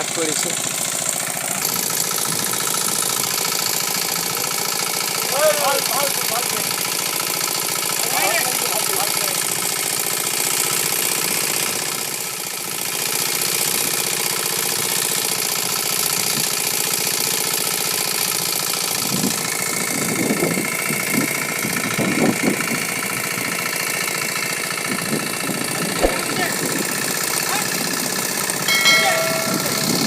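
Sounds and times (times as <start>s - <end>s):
small engine idling: 0.0s - 30.0s.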